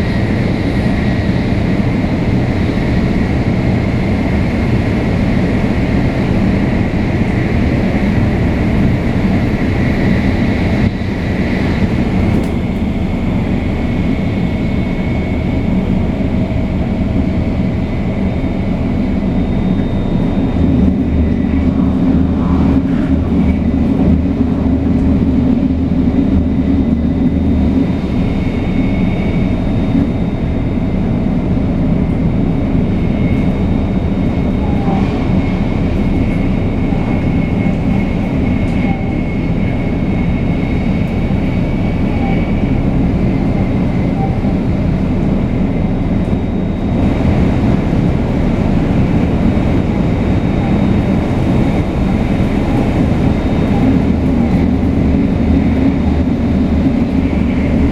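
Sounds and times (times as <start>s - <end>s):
train wheels rumbling: 0.0s - 57.9s.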